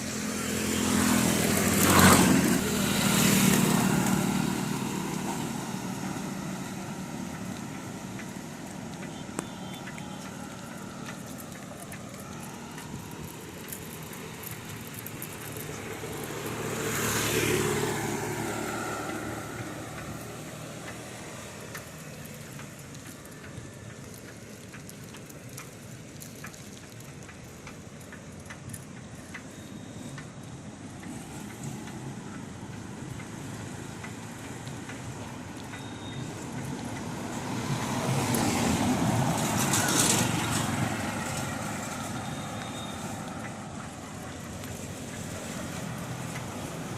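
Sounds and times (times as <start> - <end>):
background traffic noise: 0.0 - 46.9
motor vehicles passing close: 0.0 - 46.9.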